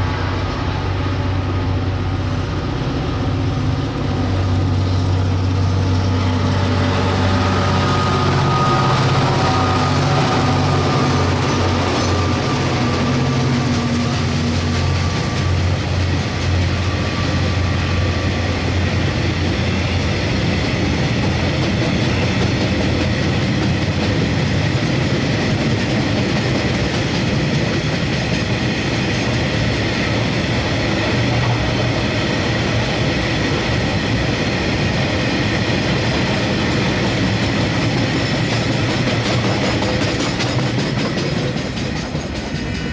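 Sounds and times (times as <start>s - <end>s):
diesel locomotive engine: 0.0s - 42.9s
train wagons rolling by: 0.0s - 42.9s.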